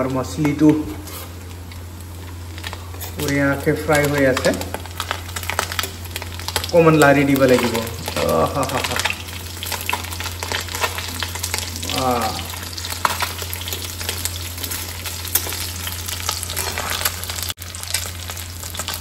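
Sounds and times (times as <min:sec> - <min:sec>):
fish sizzling in hot oil: 0:01.1 - 0:19.0.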